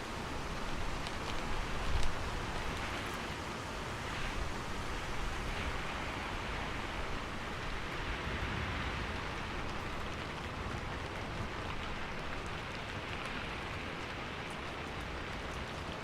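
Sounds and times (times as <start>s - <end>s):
rain falling on a roof: 0.0s - 16.0s.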